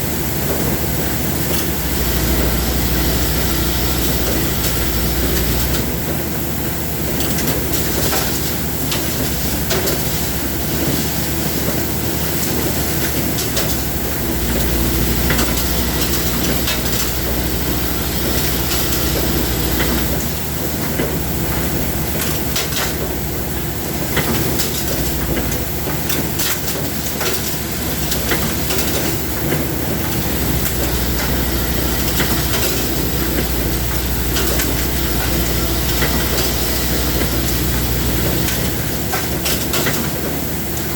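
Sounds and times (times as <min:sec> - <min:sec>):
machinery low hum: 0:00.0 - 0:40.9.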